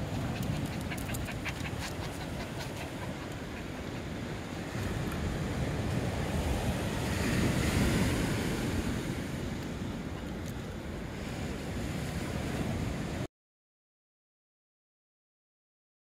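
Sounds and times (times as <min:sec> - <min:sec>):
ocean surf breaking: 0:00.0 - 0:13.2
wind buffeting microphone: 0:00.0 - 0:13.2.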